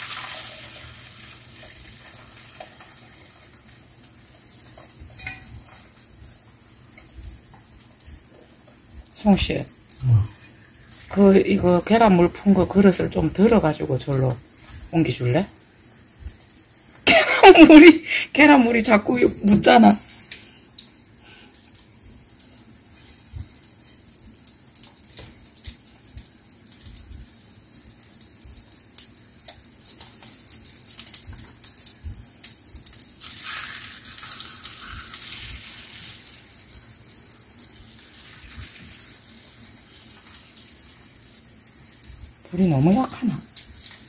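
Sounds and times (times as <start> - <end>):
meat frying in oil: 0.0 - 44.0.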